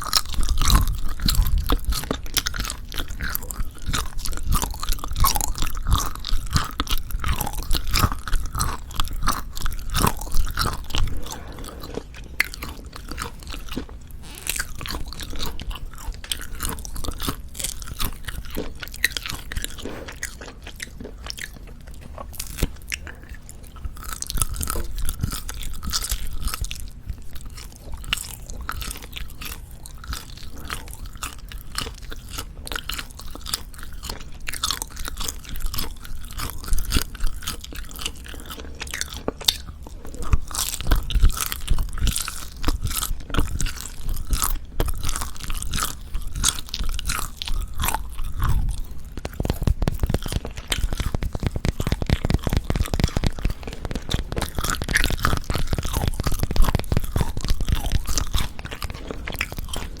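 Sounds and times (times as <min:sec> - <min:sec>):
chewing dry meat: 0:00.0 - 1:00.0.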